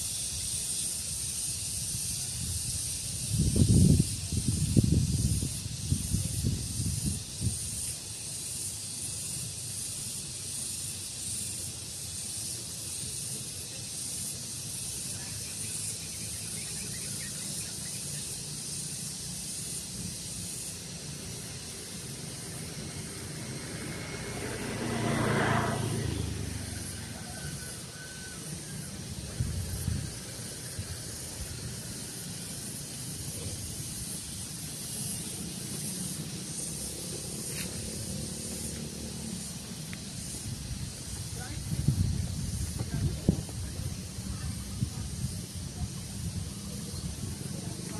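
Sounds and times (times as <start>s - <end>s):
breeze hissing: 0.0s - 47.9s.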